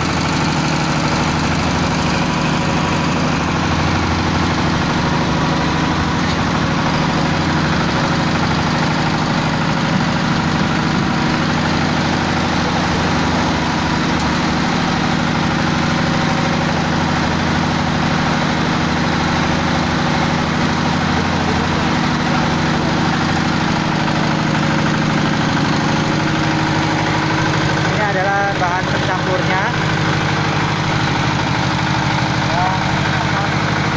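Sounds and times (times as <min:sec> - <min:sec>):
machine engine humming steadily: 0:00.0 - 0:33.9.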